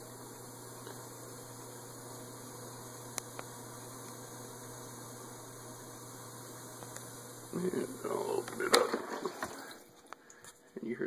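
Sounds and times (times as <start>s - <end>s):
dishwasher humming: 0.0s - 10.3s.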